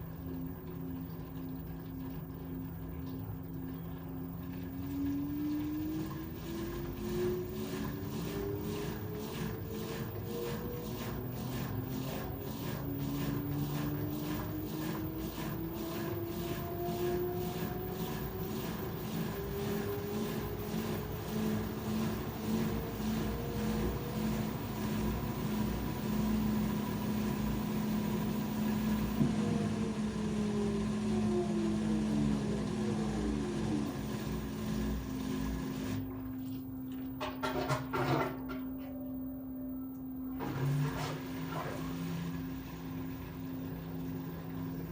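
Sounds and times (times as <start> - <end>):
washer drive whine rising: 0.0 - 44.9.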